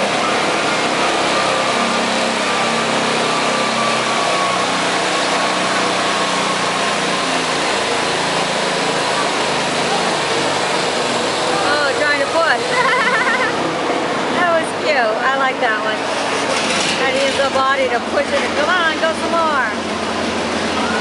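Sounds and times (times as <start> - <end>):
outdoor noise: 0.0 - 21.0
riding mower engine running: 0.0 - 21.0.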